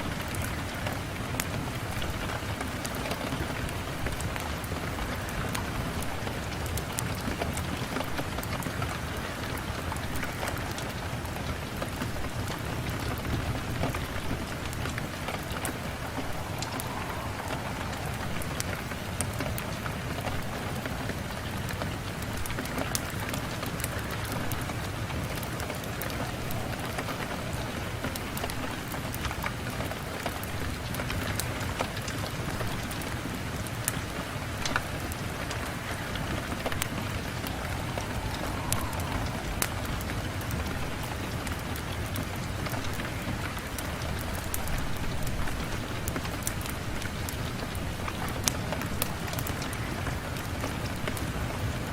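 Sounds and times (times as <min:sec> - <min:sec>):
rain on a window: 0:00.0 - 0:51.9.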